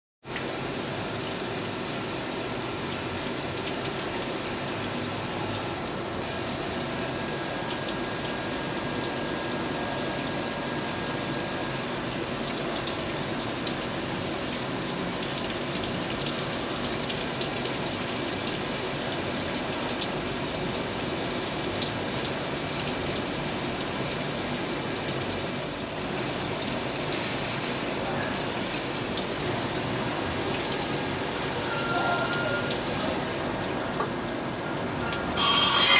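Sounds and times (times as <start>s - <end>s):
coolant gushing: 0.2s - 35.9s.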